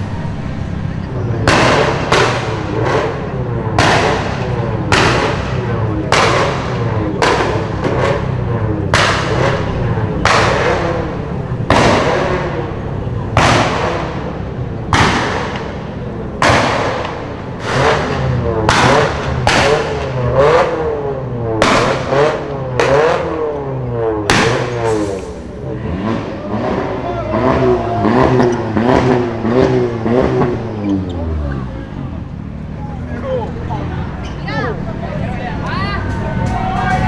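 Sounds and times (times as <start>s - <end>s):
exhaust bangs and pops: 0.0s - 31.0s
car engines revving: 0.0s - 37.0s.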